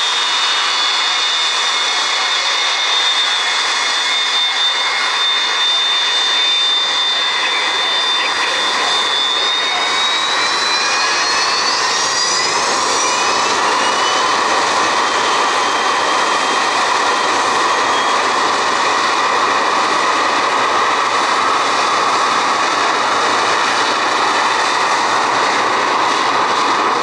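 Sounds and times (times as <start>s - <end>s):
aircraft turbine engines whining: 0.0s - 27.0s.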